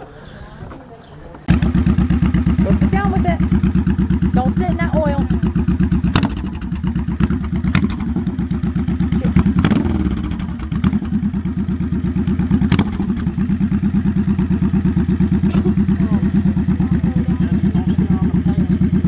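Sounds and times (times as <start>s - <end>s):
motorcycle engine idling: 1.4s - 19.0s.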